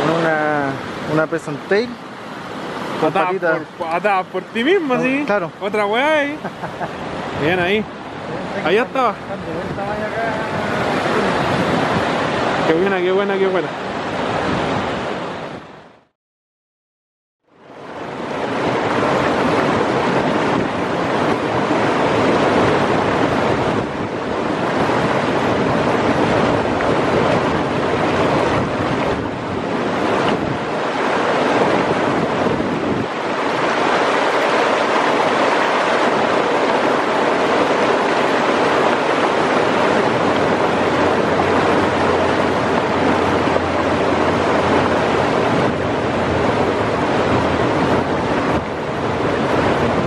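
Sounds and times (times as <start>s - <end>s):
river rushing over rocks: 0.0s - 15.8s, 17.7s - 50.0s.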